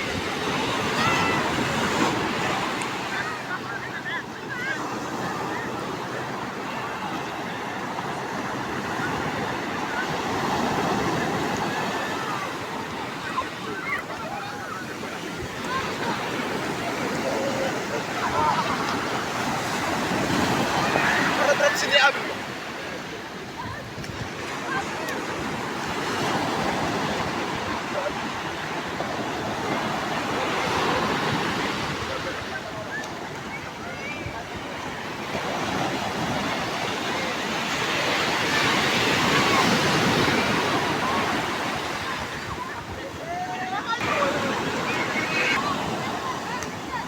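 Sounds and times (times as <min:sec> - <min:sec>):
breaking sea waves: 0:00.0 - 0:47.0.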